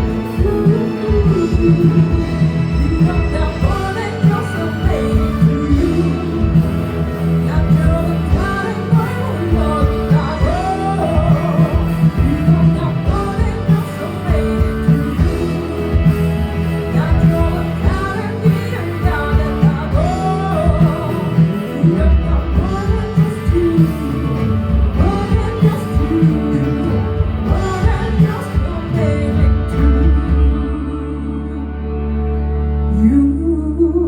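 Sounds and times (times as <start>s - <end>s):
rock band playing live: 0.0s - 33.0s
person singing: 0.0s - 34.0s.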